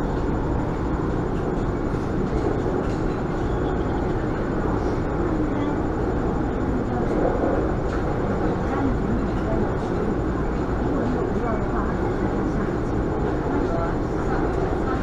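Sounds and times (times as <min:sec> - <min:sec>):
metro train running noise: 0:00.0 - 0:15.0.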